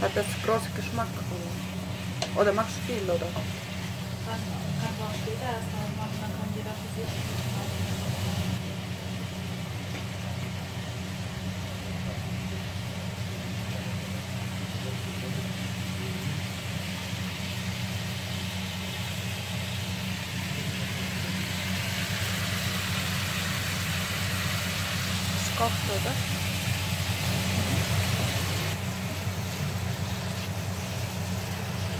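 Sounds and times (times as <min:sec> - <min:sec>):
food sizzling in a frying pan: 0:00.0 - 0:31.9.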